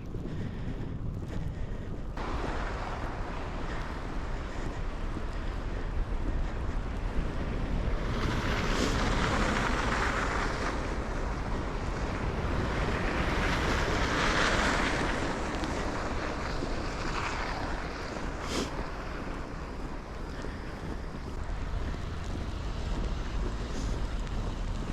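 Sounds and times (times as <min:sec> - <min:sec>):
wind rumbling on microphone: 0:00.0 - 0:24.9
vehicle tyre hiss on snow: 0:02.2 - 0:24.9.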